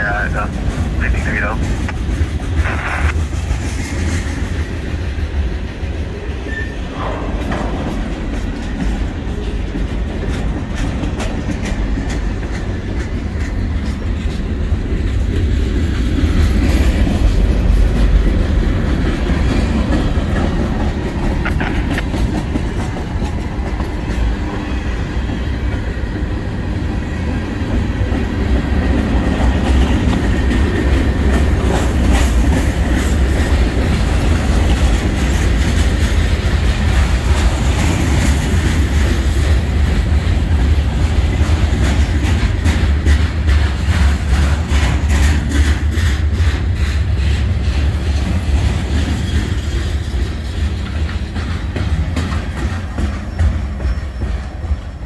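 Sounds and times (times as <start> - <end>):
freight train rumbling past: 0.0 - 55.0
wheels clicking over rail joints: 1.6 - 24.4, 27.3 - 55.0.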